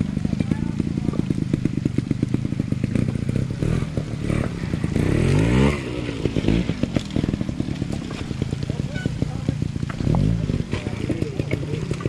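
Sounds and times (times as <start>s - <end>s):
motorcycle engine pulsing: 0.0s - 12.0s.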